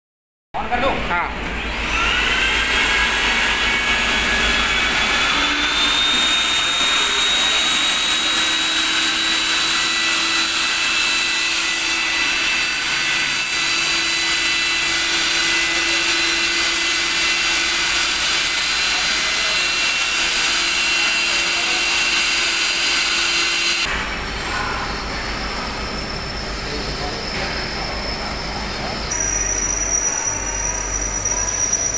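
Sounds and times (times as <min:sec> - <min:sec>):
vacuum blower whining: 0:01.4 - 0:31.9.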